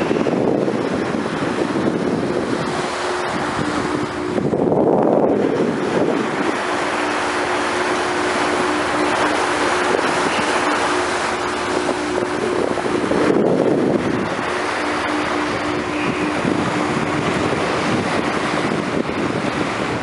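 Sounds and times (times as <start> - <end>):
faint engine hum: 0.0 - 20.0
water rushing past boat bow: 0.0 - 20.0
wind buffeting microphone: 0.0 - 20.0.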